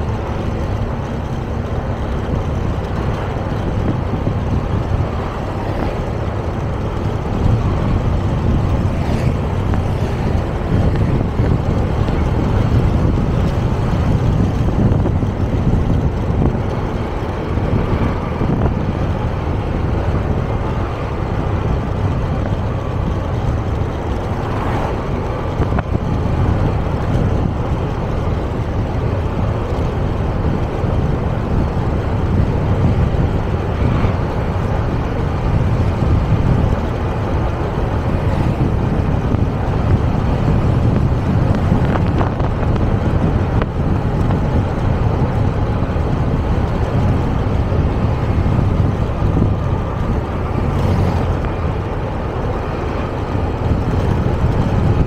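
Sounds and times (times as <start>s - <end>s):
scooter road noise: 0.0s - 55.0s
wind buffeting microphone: 0.0s - 55.0s.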